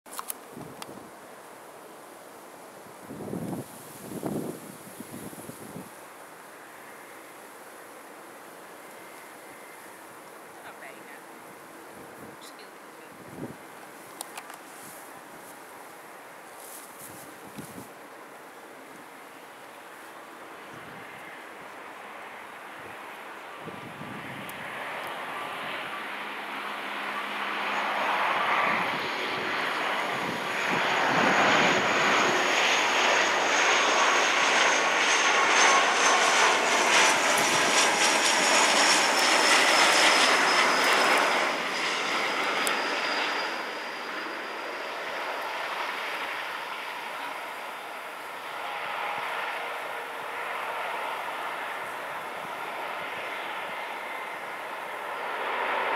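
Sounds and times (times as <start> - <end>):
turboprop airliner flying past: 3.4 - 14.0, 18.4 - 55.9.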